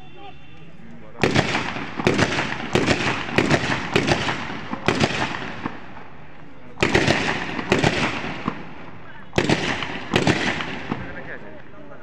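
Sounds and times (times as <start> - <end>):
sharp bangs and crackles: 1.2 - 6.2, 6.8 - 11.8.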